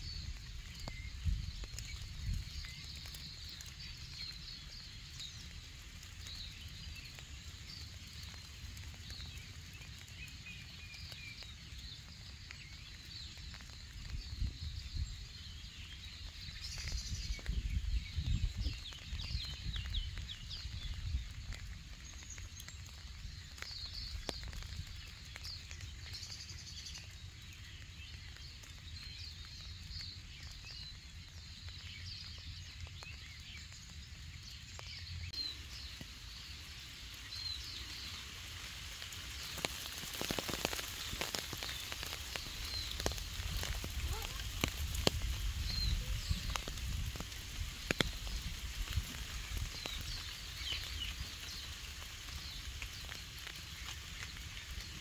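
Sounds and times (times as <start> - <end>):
light rain pattering: 0.0 - 55.0
small birds chirping: 0.0 - 55.0.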